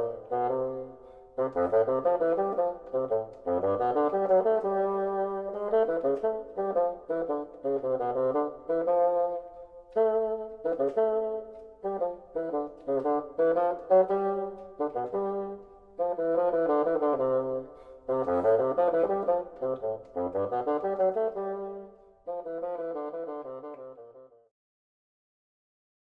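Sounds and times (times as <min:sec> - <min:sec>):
jazz horn chords: 0:00.0 - 0:24.3.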